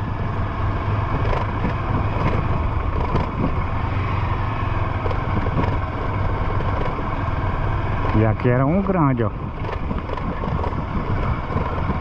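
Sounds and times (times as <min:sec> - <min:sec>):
motorcycle engine running: 0:00.0 - 0:12.0
tyre noise on dirt road: 0:00.0 - 0:12.0
wind buffeting microphone: 0:00.0 - 0:12.0.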